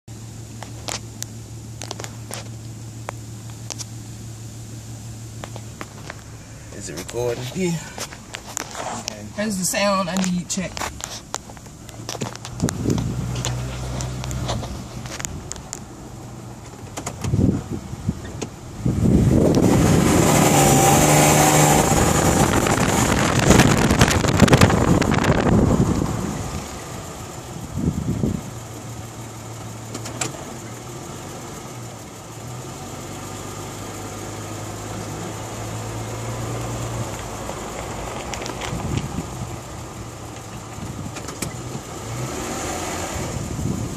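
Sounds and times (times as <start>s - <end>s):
car engine idling: 0.1s - 43.9s
high engine whine: 0.1s - 43.9s.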